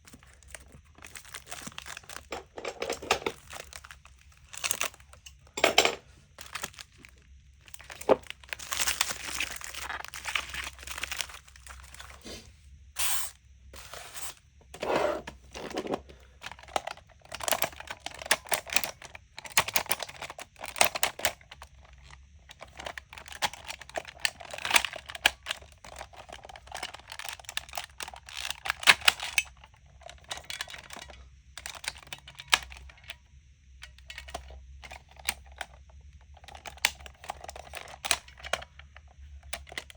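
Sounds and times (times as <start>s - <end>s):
crinkling and rustling: 0.0s - 33.1s.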